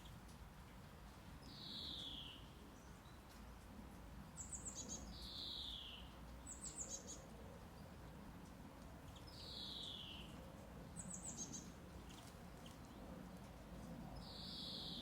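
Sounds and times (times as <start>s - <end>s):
birds singing faintly: 0.0s - 15.0s.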